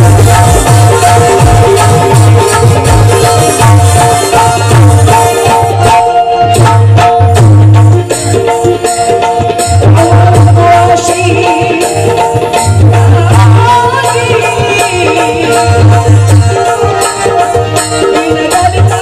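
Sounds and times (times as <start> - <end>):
hand drums beating: 0.0 - 19.0.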